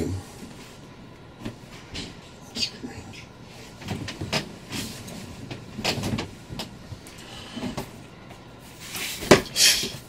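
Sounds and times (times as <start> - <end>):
bedclothes rustling: 0.0 - 10.0.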